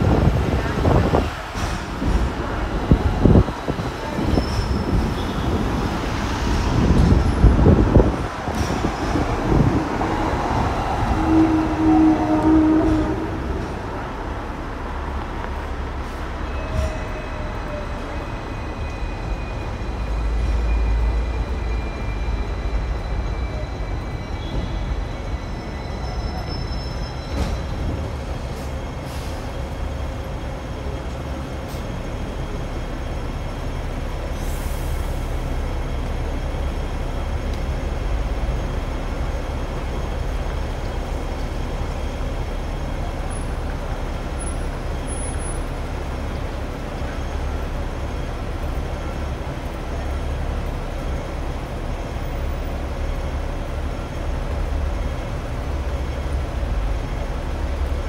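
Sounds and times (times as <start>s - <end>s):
tram rumbling: 0.0s - 58.0s.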